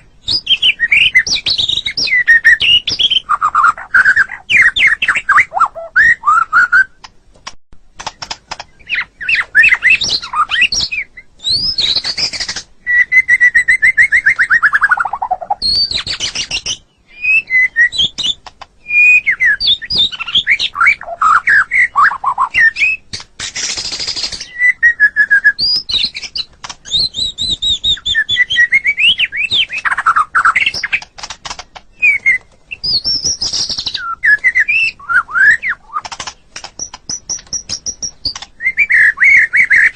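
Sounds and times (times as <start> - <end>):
bird singing whistles and trills: 0.0 - 7.0, 8.2 - 31.1, 31.9 - 39.9.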